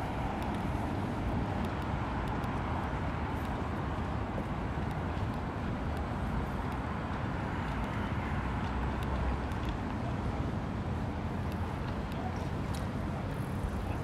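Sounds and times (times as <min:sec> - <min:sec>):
low traffic rumble: 0:00.0 - 0:14.0
faint scattered clicks: 0:00.2 - 0:10.3, 0:11.3 - 0:14.0.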